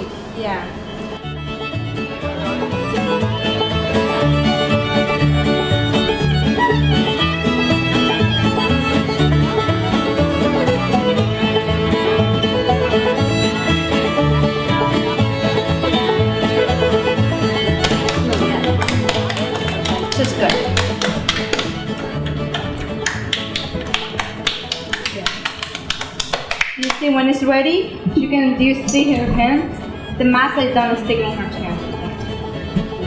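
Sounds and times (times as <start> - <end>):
upbeat bluegrass tune: 1.2 - 26.9, 29.8 - 33.0.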